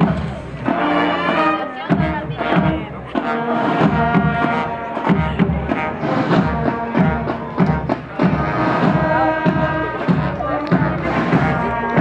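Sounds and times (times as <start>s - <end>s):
bass drum beat: 0.0s - 12.0s
brass band playing a march: 0.0s - 12.0s.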